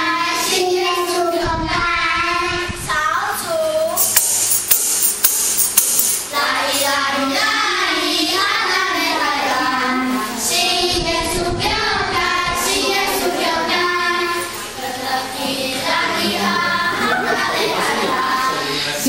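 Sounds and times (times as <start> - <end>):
boy singing into a microphone: 0.0 - 4.0, 6.4 - 19.0.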